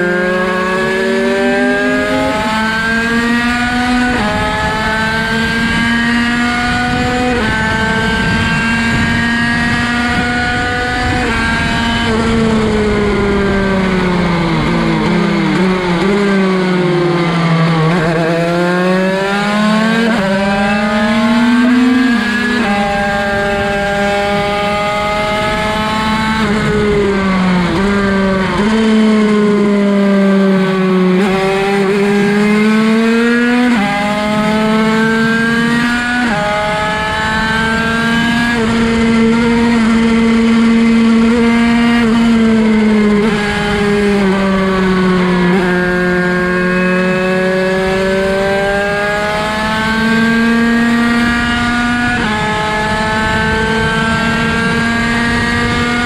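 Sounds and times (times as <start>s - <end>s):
two-stroke motorbike engine revving: 0.0s - 56.0s.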